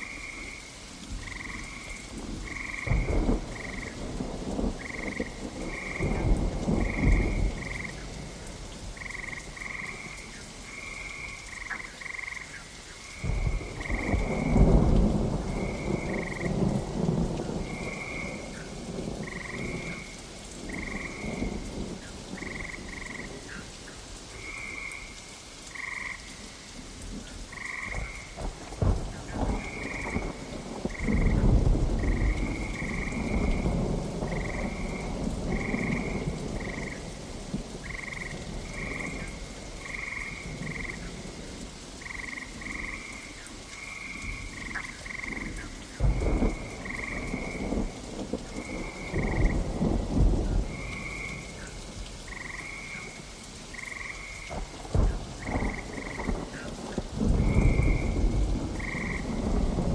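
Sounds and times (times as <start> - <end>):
frogs calling: 0.0 - 8.2, 9.0 - 14.8, 15.5 - 23.8, 24.4 - 26.7, 27.5 - 28.4, 29.4 - 37.1, 37.8 - 47.9, 48.5 - 59.6
steady rain: 0.0 - 59.9
thunder rumbling: 1.1 - 10.4, 13.2 - 23.5, 27.5 - 43.2, 44.1 - 59.9.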